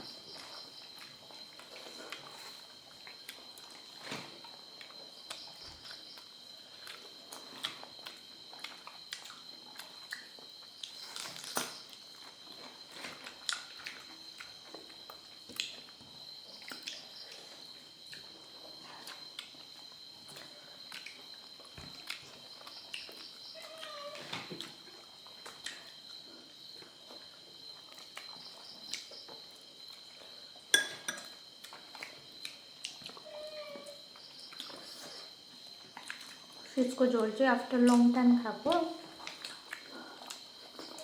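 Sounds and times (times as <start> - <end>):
crickets trilling: 0.0 - 41.0
chewing and smacking: 0.4 - 16.0, 18.0 - 30.2, 31.2 - 33.2, 34.2 - 36.7, 39.0 - 41.0.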